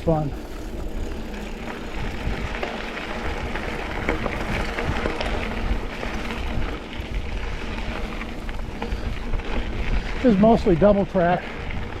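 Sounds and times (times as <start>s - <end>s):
bike clicks and rattles: 0.0s - 12.0s
bike tyres on dirt and gravel: 0.0s - 12.0s.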